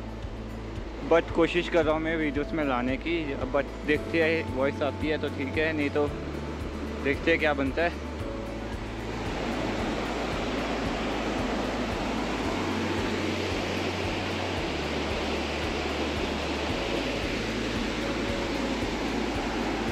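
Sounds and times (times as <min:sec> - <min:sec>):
stream rushing over boulders: 0:02.7 - 0:19.9.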